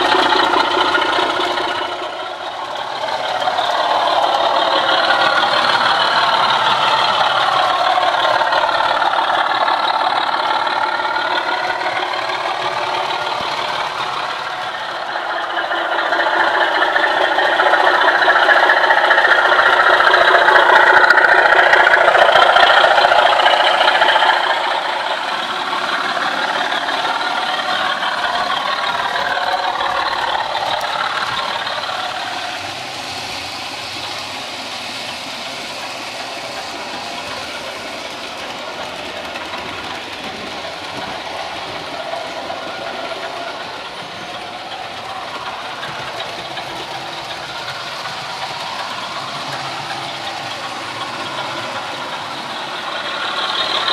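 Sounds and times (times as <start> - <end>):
diesel engine sound from small speaker: 0.0 - 53.9
wheels rattling on model track: 0.0 - 53.9.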